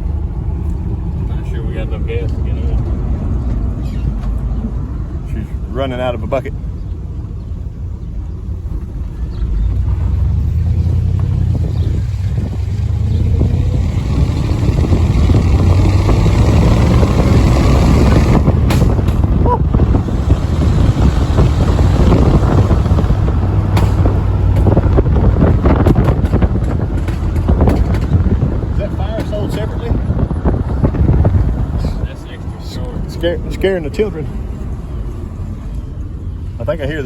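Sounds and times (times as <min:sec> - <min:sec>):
pickup truck engine accelerating: 0:00.0 - 0:37.0
wind noise: 0:00.0 - 0:37.0.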